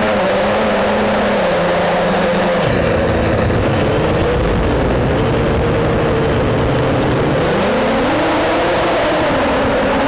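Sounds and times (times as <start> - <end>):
drone motors and propellers humming: 0.0 - 10.0.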